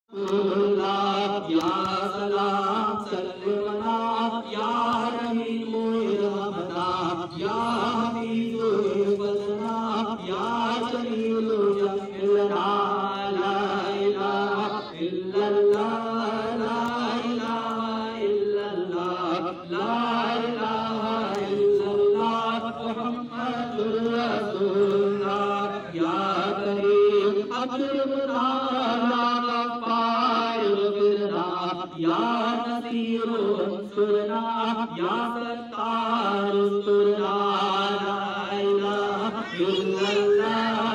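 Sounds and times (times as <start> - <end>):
man chanting into a microphone: 0.1 - 40.9.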